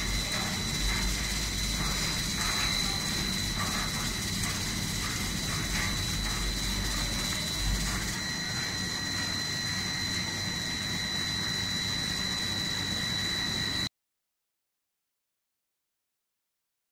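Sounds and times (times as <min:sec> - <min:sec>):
high-pitched machine whine: 0:00.0 - 0:13.9
machinery running: 0:00.0 - 0:13.9.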